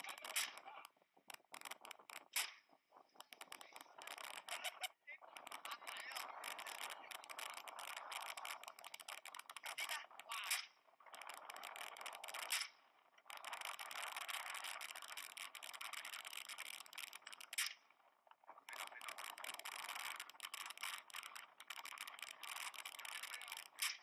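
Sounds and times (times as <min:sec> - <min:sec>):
harsh crackling noise with clicks: 0:00.0 - 0:24.0.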